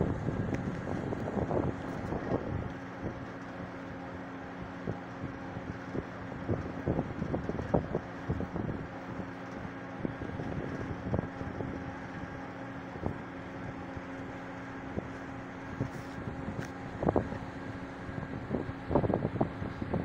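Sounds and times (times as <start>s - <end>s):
boat engine humming: 0.0s - 20.0s
wind buffeting microphone: 0.0s - 20.0s.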